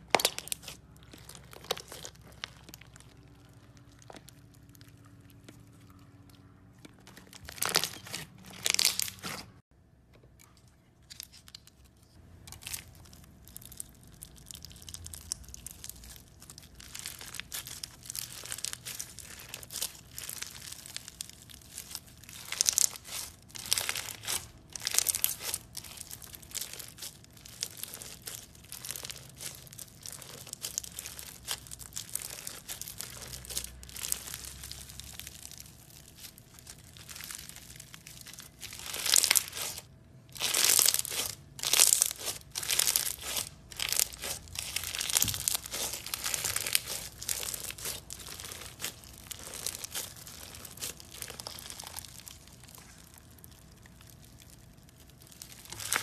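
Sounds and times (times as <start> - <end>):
slime crunching and crackling: 0.0 - 9.7, 11.1 - 56.0.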